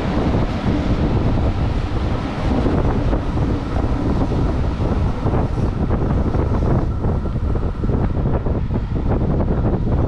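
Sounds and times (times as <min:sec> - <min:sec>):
train rumbling on track: 0:00.0 - 0:10.0
wind noise on microphone: 0:00.0 - 0:10.0.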